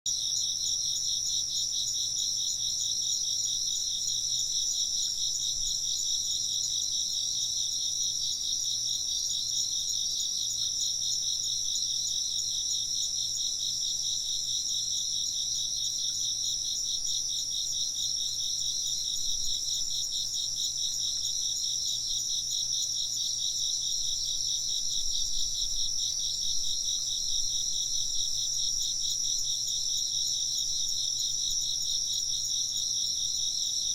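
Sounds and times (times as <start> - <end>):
high insect trill: 0.1 - 33.9
rapid pulsing insect chirp: 0.1 - 33.9.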